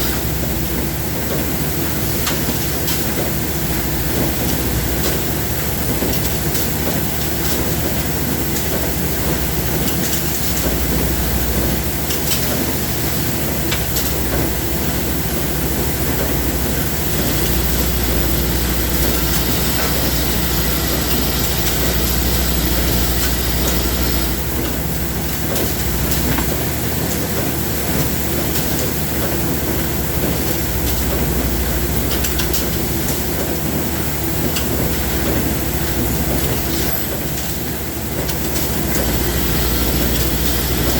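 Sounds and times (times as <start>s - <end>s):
loud machinery noise: 0.0s - 40.9s.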